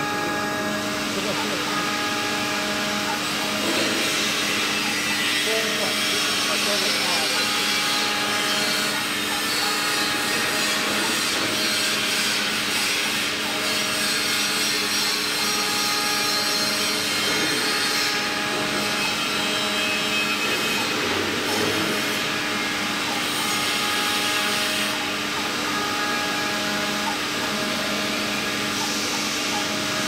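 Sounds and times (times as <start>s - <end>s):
cnc router spindle cutting: 0.0s - 30.0s.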